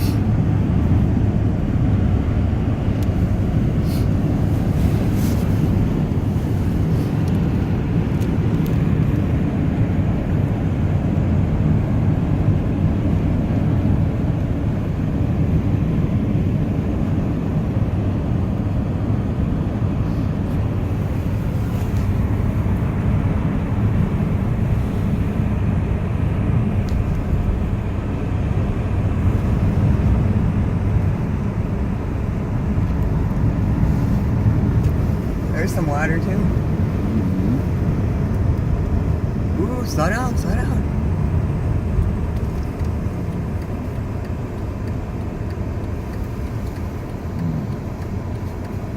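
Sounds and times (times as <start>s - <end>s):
car interior driving drone: 0.0s - 48.9s.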